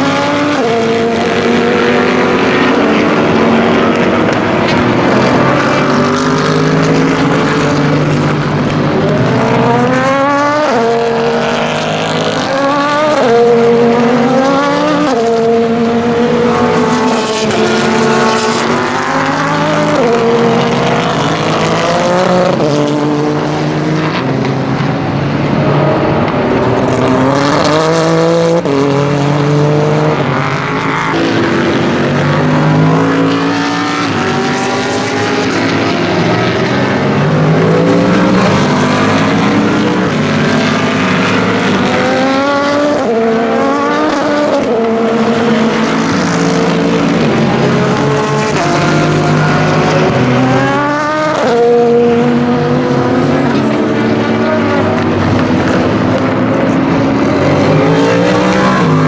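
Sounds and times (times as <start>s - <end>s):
race cars passing at speed: 0.0s - 59.0s.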